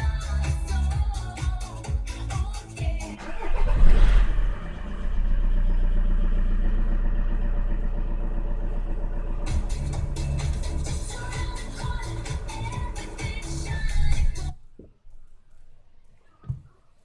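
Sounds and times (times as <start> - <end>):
car engine cranking and idling: 0.0 - 14.6.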